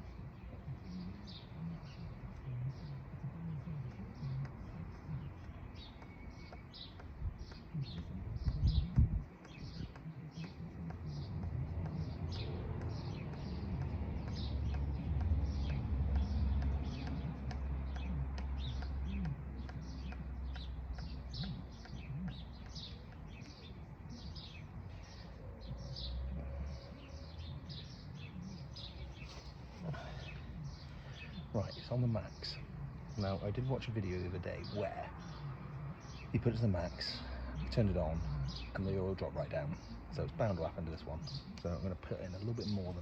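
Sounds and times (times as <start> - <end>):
steady low rumble: 0.0 - 38.8
birds chirping rapidly: 0.0 - 43.0.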